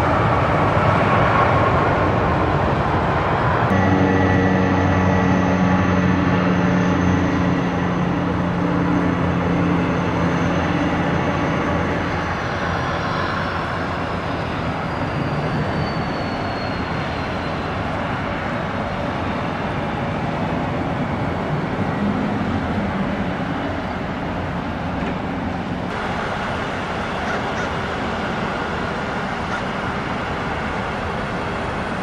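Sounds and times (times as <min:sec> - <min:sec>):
jet engines passing: 0:00.0 - 0:32.0.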